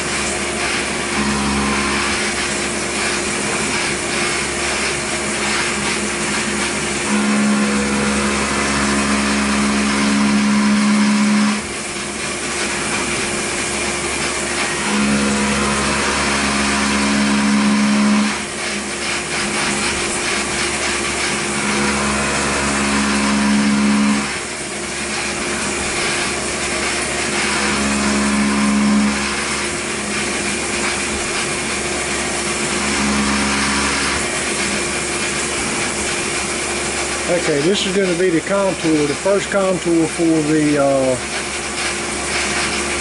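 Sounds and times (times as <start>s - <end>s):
loud low hum: 0.0s - 3.8s, 4.6s - 13.1s, 13.8s - 36.1s
milling machine cutting metal: 0.0s - 43.0s.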